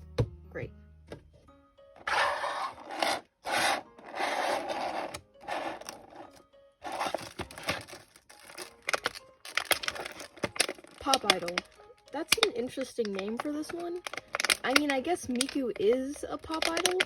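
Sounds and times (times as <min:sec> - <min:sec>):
packaging rubbing and scraping: 0:02.0 - 0:17.0.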